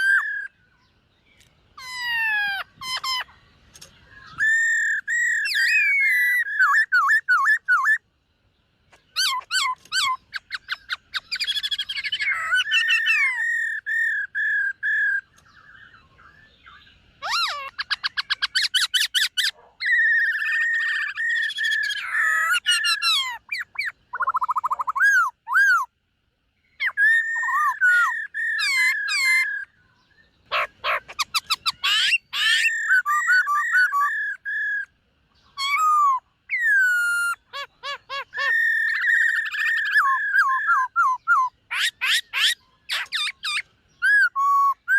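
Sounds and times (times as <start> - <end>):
bird singing whistled phrases: 0.0 - 1.0, 1.8 - 8.0, 8.9 - 25.9, 26.7 - 44.9.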